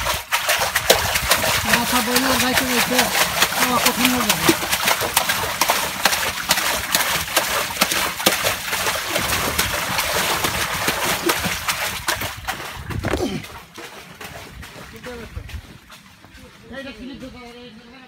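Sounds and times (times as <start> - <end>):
hands splashing water in a tank: 0.0 - 16.1.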